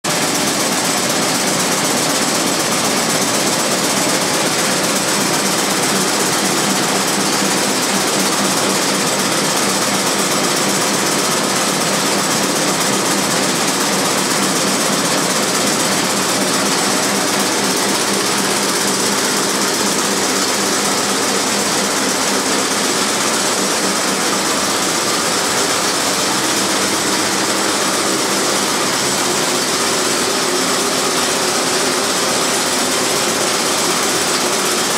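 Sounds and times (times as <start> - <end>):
textile machine running: 0.0 - 34.9
constant machine hums: 0.1 - 34.9.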